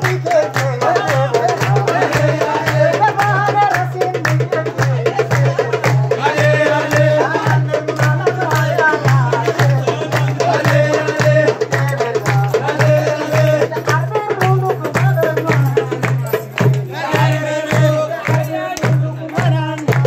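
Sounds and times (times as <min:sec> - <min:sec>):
driving drum beat: 0:00.0 - 0:20.0
folk singing: 0:00.0 - 0:20.0.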